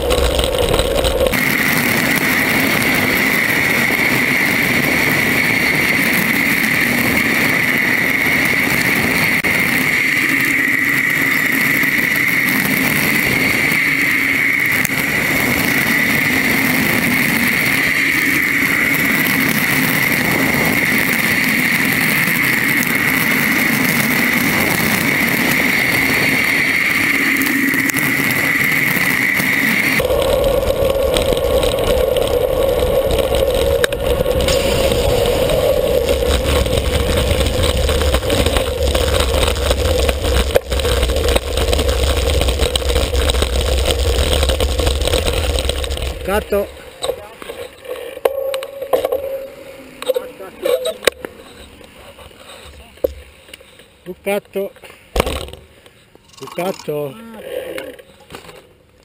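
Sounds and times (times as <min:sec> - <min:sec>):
wind rushing over microphone: 0:00.0 - 0:53.3.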